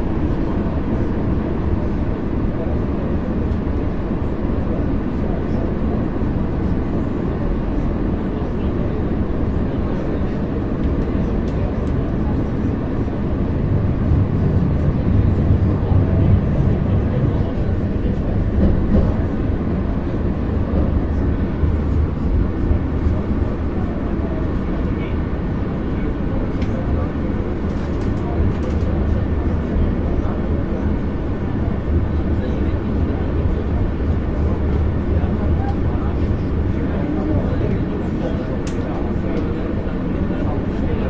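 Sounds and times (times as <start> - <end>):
funicular car rumble: 0.0 - 41.0
people talking: 0.0 - 41.0.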